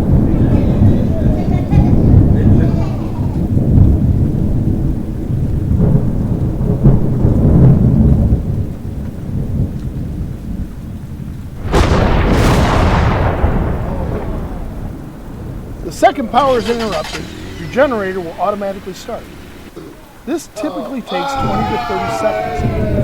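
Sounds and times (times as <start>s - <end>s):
rolling thunder: 0.0s - 20.3s, 21.0s - 23.0s
sharp thunder crack: 0.0s - 20.3s
rain: 0.0s - 23.0s.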